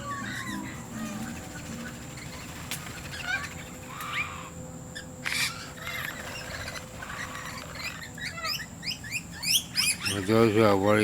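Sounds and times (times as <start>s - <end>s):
harsh noisy bird call: 0.0s - 11.0s
wild birds chirping and calling: 0.0s - 11.0s.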